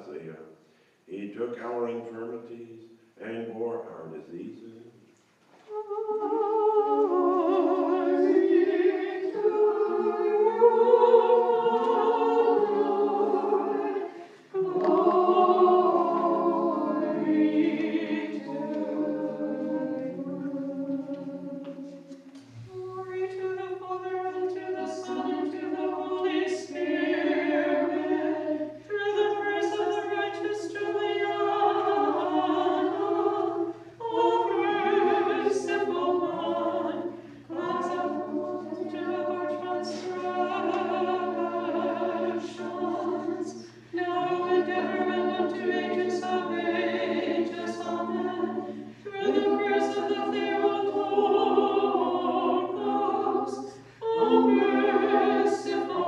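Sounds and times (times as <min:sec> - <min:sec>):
women chanting a hymn: 0:05.7 - 0:22.1, 0:22.7 - 0:56.0.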